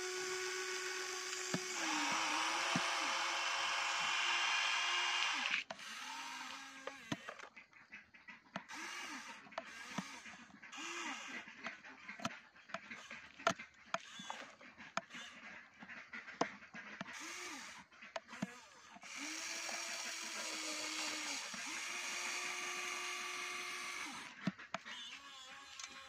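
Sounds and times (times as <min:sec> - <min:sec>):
electric motors whining: 0:00.0 - 0:07.5, 0:08.6 - 0:11.6, 0:12.8 - 0:15.4, 0:17.0 - 0:26.0.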